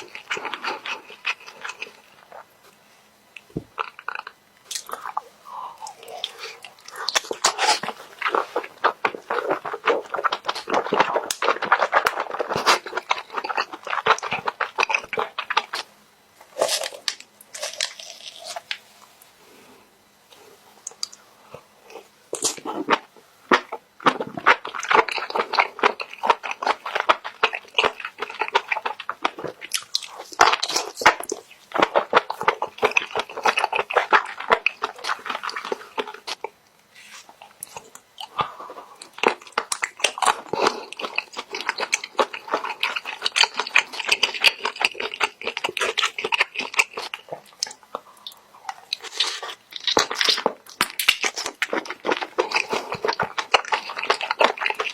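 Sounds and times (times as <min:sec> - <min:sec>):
wet chewing: 0:00.0 - 0:02.5, 0:03.4 - 0:15.9, 0:21.8 - 0:54.9.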